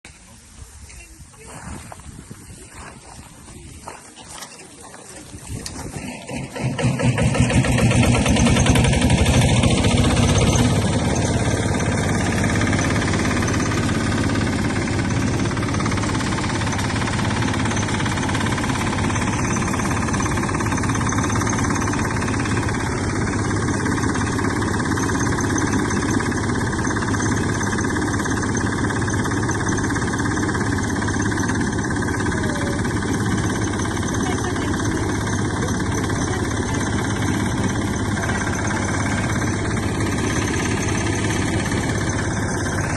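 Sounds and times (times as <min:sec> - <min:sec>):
engine running steadily: 0:00.1 - 0:42.9.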